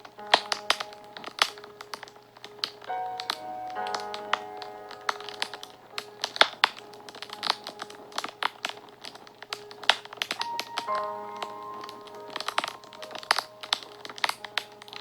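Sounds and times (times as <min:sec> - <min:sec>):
soft background music: 0:00.0 - 0:15.0
wood fire crackling: 0:00.0 - 0:15.0.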